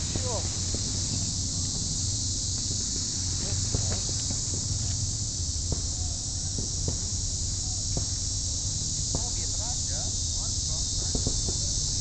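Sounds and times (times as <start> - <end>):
high hiss: 0.0 - 12.0
faint distant voices: 0.1 - 12.0.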